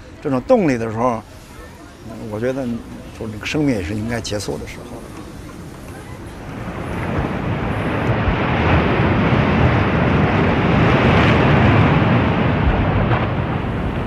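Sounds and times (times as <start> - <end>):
wind rumbling on microphone: 1.9 - 14.0
waves breaking on a beach: 2.1 - 14.0.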